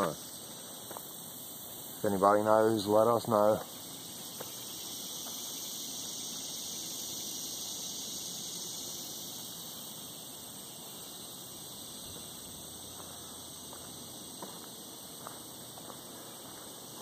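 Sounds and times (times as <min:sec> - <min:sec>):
insect chorus drone: 0:00.0 - 0:17.0
low rustling hiss: 0:00.0 - 0:17.0.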